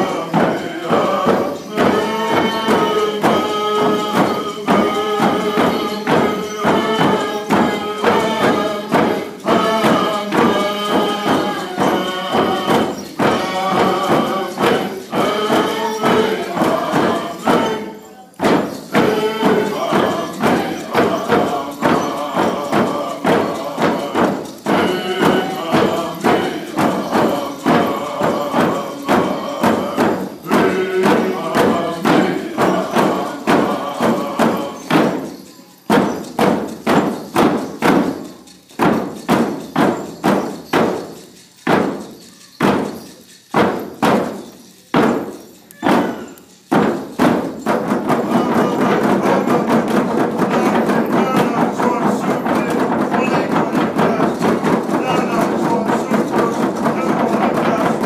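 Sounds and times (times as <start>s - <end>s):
group of singers chanting: 0.0s - 37.1s, 47.2s - 58.0s
crowd noise: 0.0s - 58.0s
drum beats: 0.0s - 58.0s.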